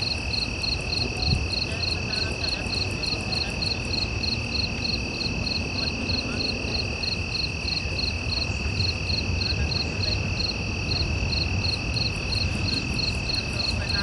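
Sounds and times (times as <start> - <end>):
insect chirping: 0.0 - 14.0
insect high trill: 0.0 - 14.0.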